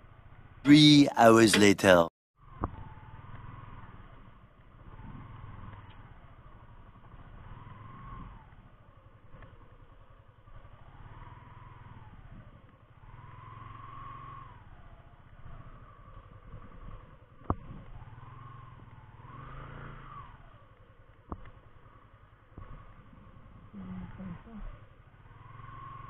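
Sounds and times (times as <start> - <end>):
motorcycle engine running: 0.0 - 0.6, 1.5 - 26.0.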